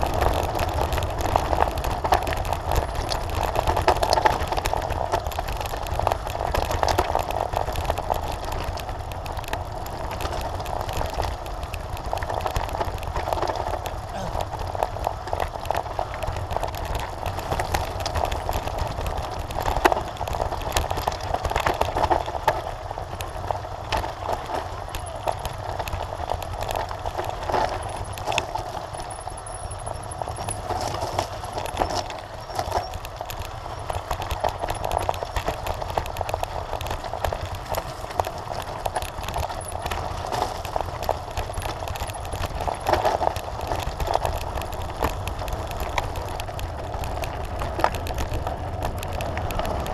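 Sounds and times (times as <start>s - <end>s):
mountain bike rattling: 0.0s - 49.9s
tyres crunching over stones: 0.0s - 49.9s.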